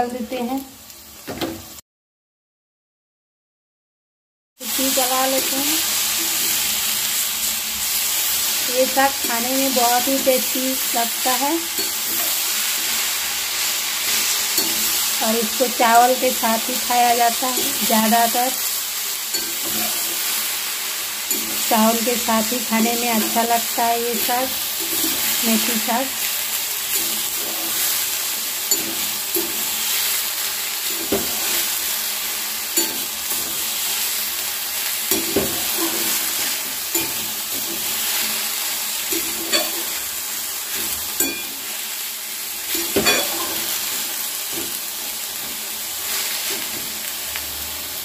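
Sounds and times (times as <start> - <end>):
greens and potato sizzling in oil: 0.0 - 1.8, 4.6 - 48.0.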